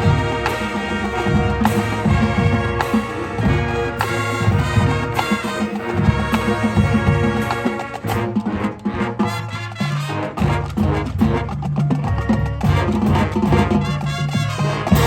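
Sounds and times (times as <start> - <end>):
brass chords: 0.0 - 15.0
marching band playing: 0.0 - 15.0
percussion hits: 0.0 - 15.0.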